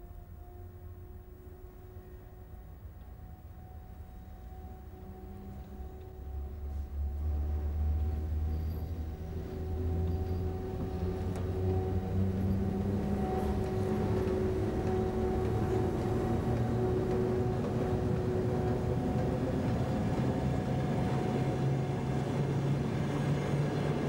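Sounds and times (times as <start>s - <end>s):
electric train rumbling past: 0.0s - 24.0s.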